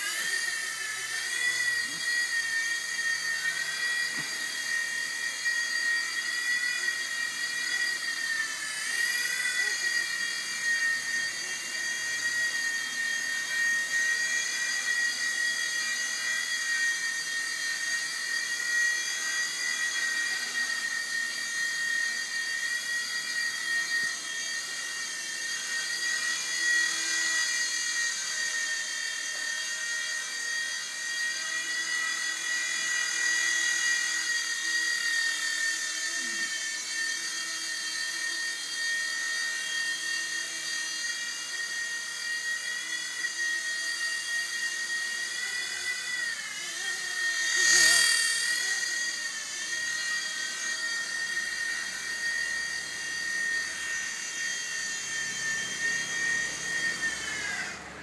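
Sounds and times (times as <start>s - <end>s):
rc helicopter motor whine: 0.0s - 58.0s.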